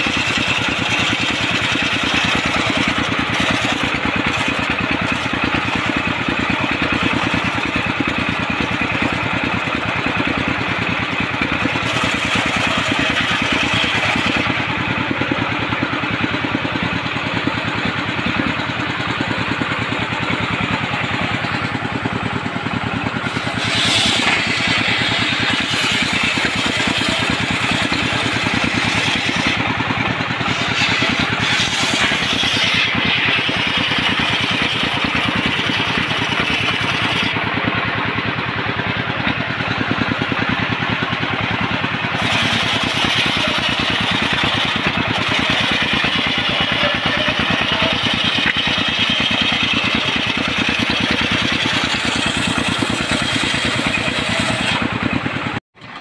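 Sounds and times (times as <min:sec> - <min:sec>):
engine-driven circular saw cutting wood: 0:00.0 - 0:56.0.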